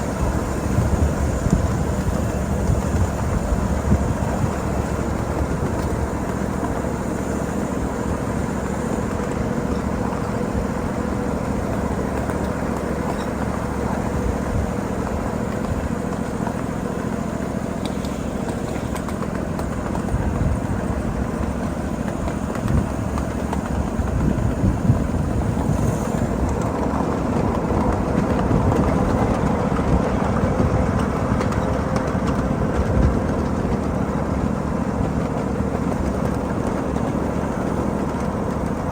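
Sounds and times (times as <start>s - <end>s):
miniature train rumbling on track: 0.0s - 38.9s
wheels knocking on rails: 0.0s - 38.9s.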